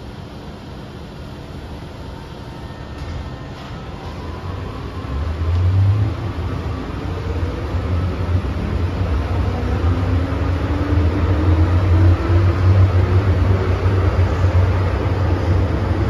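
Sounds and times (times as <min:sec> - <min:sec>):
train rumbling: 0:01.2 - 0:16.0.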